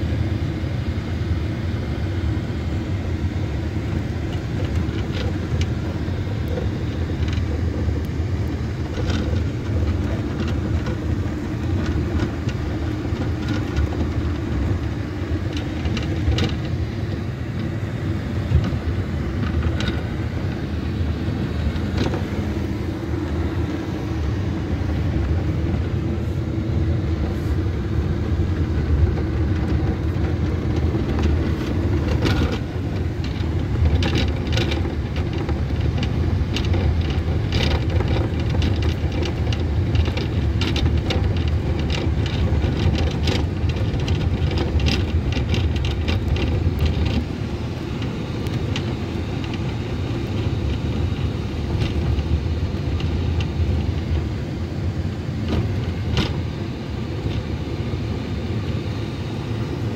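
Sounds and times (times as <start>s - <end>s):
low rumble inside van cabin: 0.0s - 59.9s
clicks and rattles: 4.1s - 26.1s, 28.5s - 54.4s, 55.4s - 56.6s.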